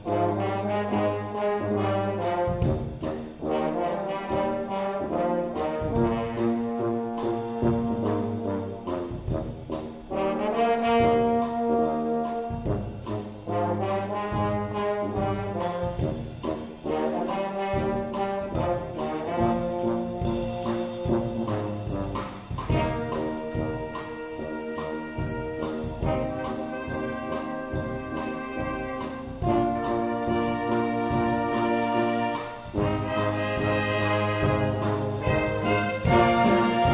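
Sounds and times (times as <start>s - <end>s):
brass chords: 0.0s - 36.9s
steady drum beat: 0.0s - 36.9s.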